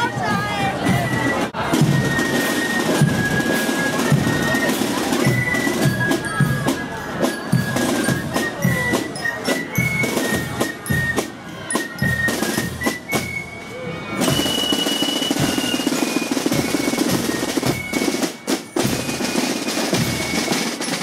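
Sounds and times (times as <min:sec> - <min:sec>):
snare drums beating: 0:00.0 - 0:13.5, 0:14.2 - 0:21.0.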